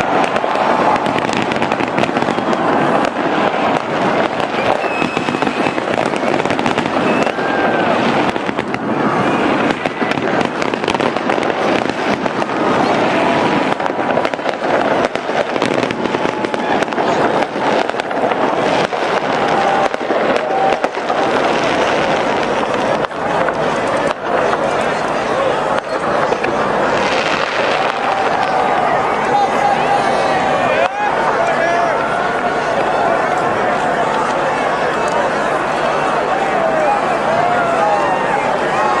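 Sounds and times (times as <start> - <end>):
crowd voices: 0.0 - 39.0
fireworks bangs and crackling: 0.0 - 39.0.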